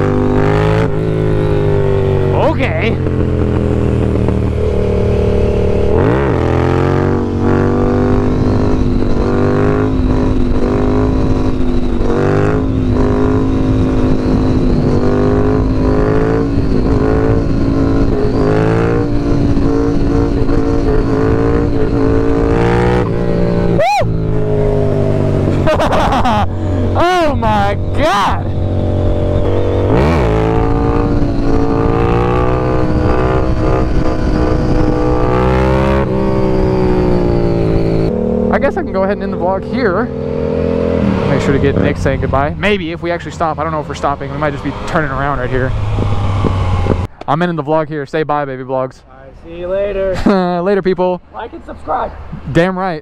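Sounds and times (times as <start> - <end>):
motorcycle engine cruising: 0.0 - 47.6
wind noise: 0.0 - 48.0.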